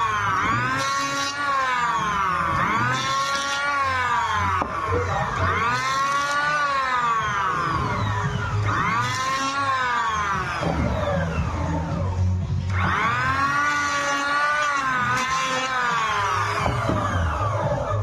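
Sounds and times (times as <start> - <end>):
electric planer cutting wood: 0.0 - 18.0.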